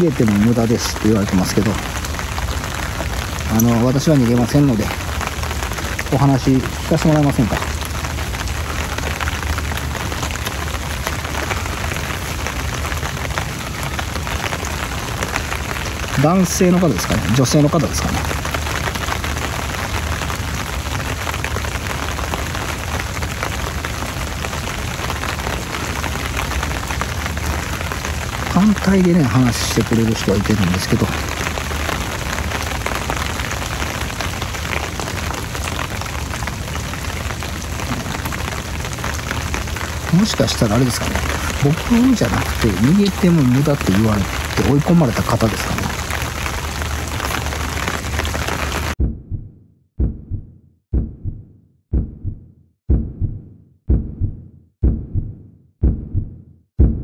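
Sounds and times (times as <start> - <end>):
rain falling on umbrella: 0.0 - 49.0.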